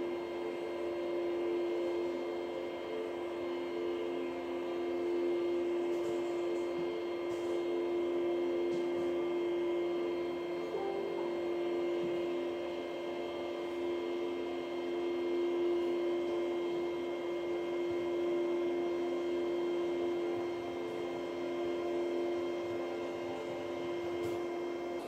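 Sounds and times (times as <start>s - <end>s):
projector fan humming: 0.0s - 25.0s.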